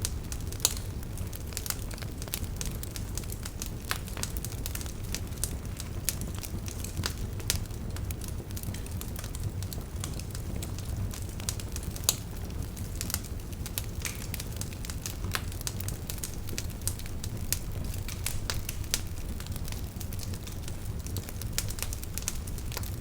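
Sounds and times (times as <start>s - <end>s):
burning logs crackling and popping: 0.0s - 23.0s
low rumble of flames: 0.0s - 23.0s.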